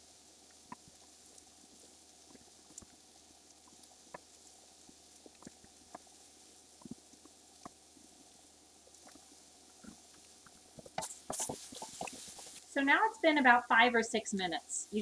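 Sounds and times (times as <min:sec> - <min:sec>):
mushrooms sizzling in oil: 0:00.1 - 0:15.0.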